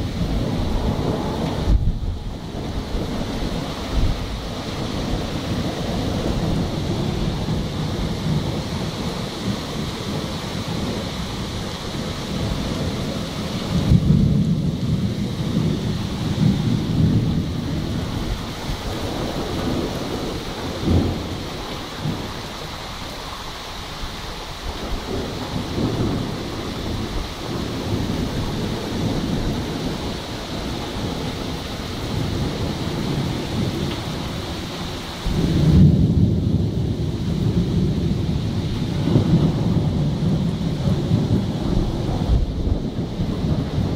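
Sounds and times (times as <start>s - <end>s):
rolling thunder: 0.0s - 22.9s, 24.6s - 43.9s
rain falling: 0.0s - 43.9s.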